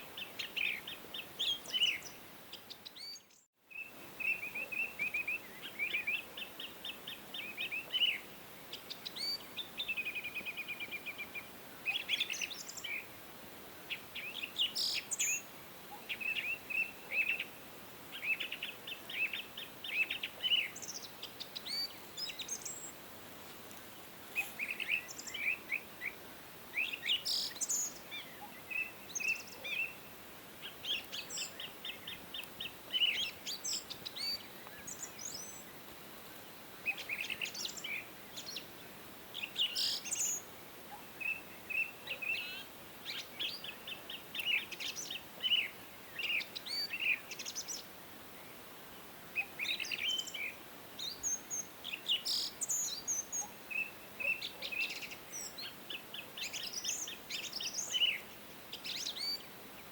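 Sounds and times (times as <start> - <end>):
songbirds singing: 0.0 - 13.2, 13.8 - 59.9
faint steady hiss: 0.0 - 59.9.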